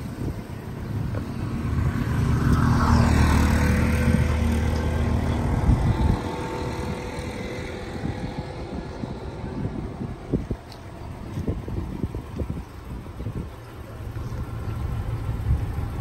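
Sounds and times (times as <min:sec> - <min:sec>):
road noise: 0:00.0 - 0:16.0
vehicle engine drone: 0:00.0 - 0:16.0.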